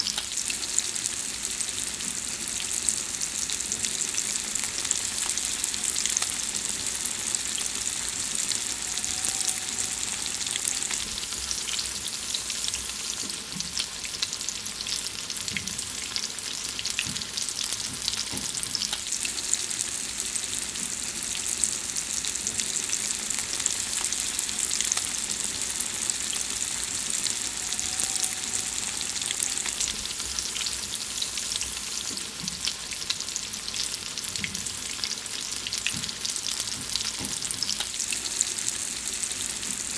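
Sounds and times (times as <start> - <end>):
food sizzling in hot fat: 0.0 - 39.9.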